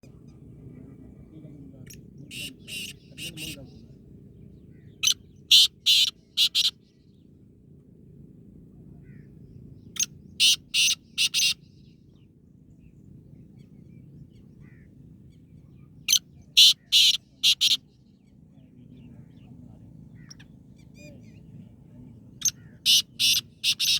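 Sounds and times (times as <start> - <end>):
faint low hum: 0.0 - 23.9.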